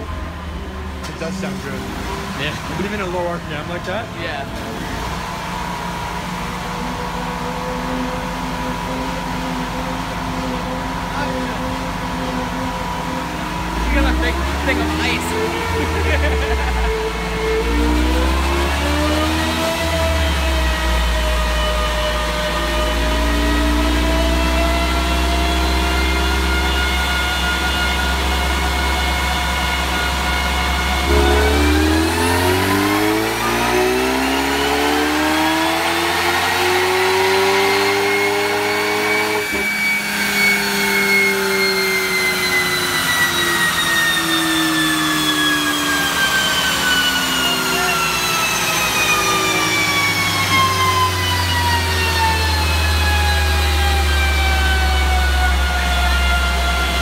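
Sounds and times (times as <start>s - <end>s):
car engine on dyno: 0.0s - 57.0s
dyno rollers whining: 0.0s - 57.0s.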